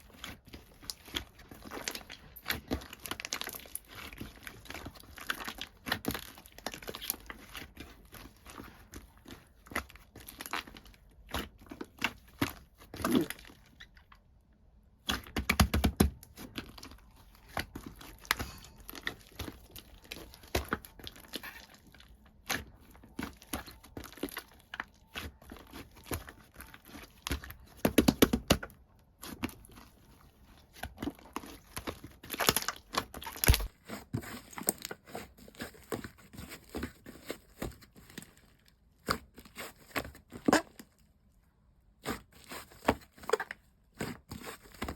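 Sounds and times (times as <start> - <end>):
slime crackling and squishing: 0.0 - 44.9.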